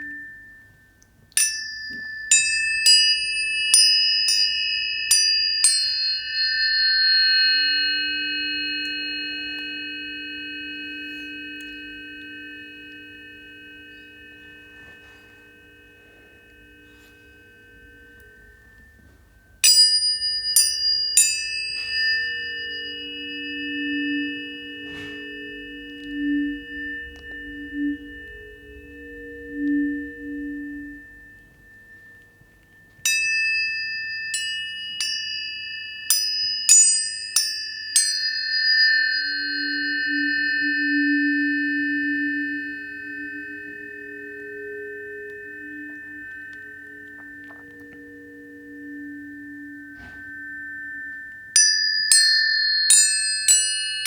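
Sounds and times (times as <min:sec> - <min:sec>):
tuning fork strike clicks: 0:00.0 - 0:54.0
tuning forks ringing: 0:00.0 - 0:54.0.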